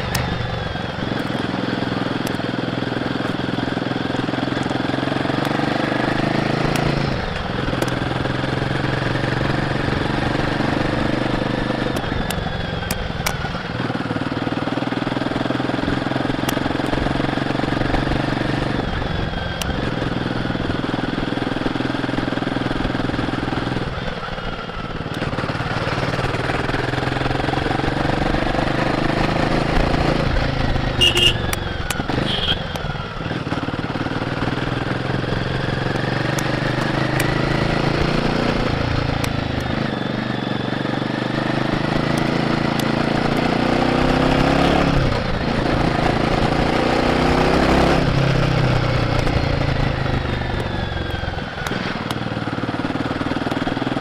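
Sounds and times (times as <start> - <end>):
motorcycle engine under way: 0.0 - 54.0.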